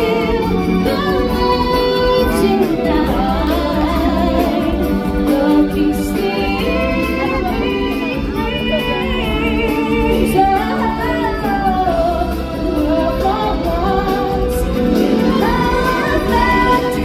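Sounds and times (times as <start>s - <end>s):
backing music: 0.0s - 17.0s
choir singing: 0.0s - 17.0s
woman singing with vibrato: 0.0s - 17.0s.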